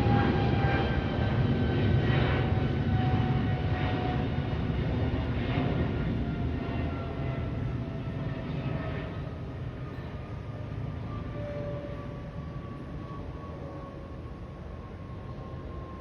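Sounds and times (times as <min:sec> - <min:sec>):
airplane flying past: 0:00.0 - 0:16.0.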